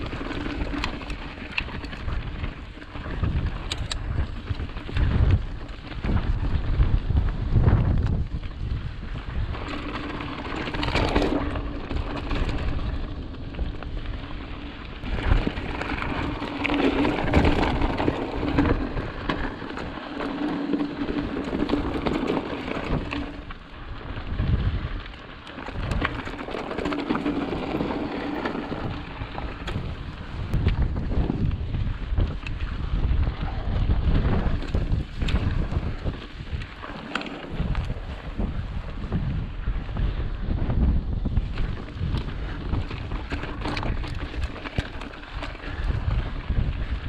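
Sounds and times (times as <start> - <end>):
bike tyres on dirt and rocks: 0.0 - 47.0
wind rumbling on microphone: 0.0 - 47.0.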